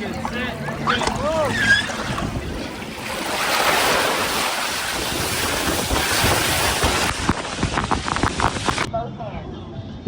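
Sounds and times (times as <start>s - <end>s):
loud rushing water: 0.0s - 8.9s
wind buffeting microphone: 0.0s - 8.9s.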